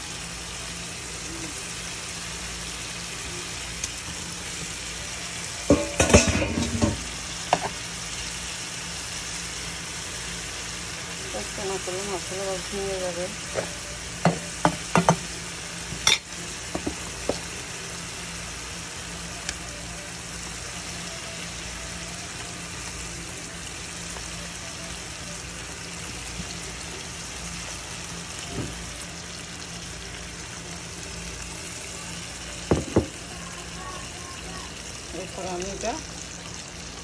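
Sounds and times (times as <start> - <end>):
fish sizzling in a pan: 0.0 - 37.0.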